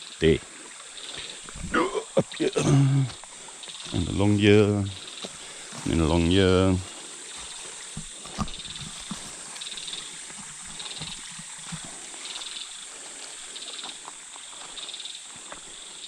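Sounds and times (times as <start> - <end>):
steady background hiss: 0.0 - 16.0
footsteps on trail: 0.9 - 16.0.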